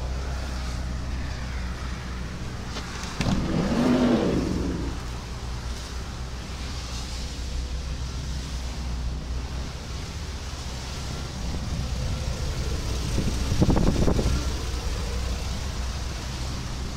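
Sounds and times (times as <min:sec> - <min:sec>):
vehicle engine idling: 0:00.0 - 0:16.9.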